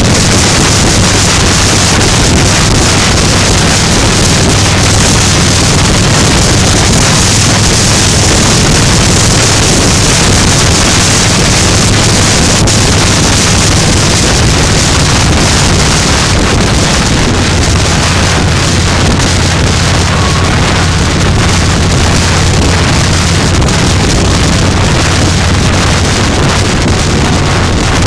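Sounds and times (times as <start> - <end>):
motorcycle engine drone: 0.0 - 28.0
wind rushing over microphone: 0.0 - 28.0.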